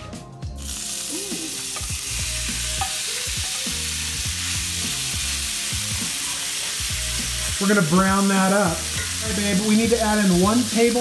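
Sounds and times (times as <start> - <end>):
beef sizzling in hot oil: 0.6 - 11.0.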